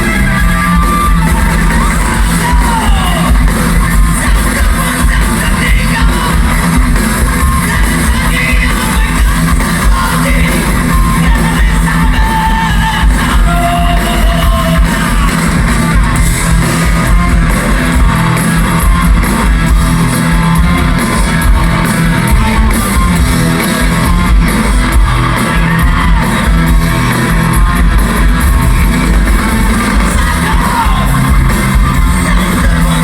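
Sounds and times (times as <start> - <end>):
electric guitar: 0.0 - 33.0
rock band playing live: 0.0 - 33.0.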